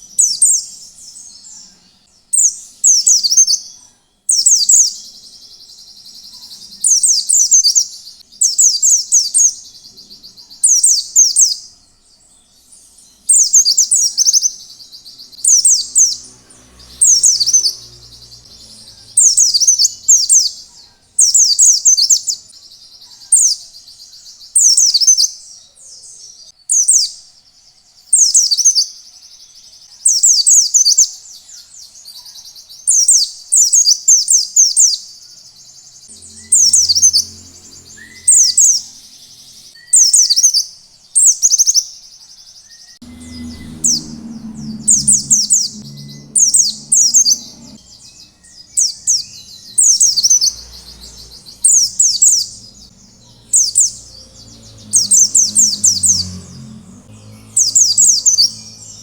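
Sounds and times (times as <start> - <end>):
white-eye bird singing: 0.0 - 59.0.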